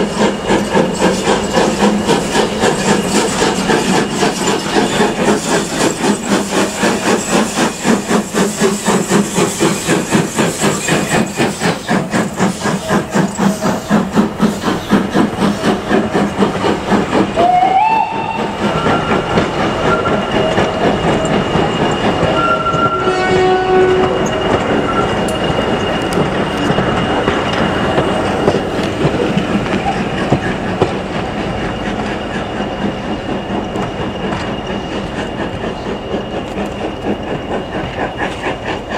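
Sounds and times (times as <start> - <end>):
carriages rolling on rails: 0.0 - 38.9
steam locomotive chimney exhaust: 0.0 - 38.9.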